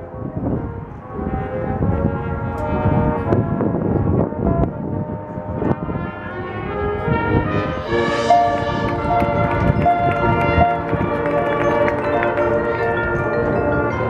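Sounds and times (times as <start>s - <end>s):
marching band brass chords: 0.1s - 14.0s.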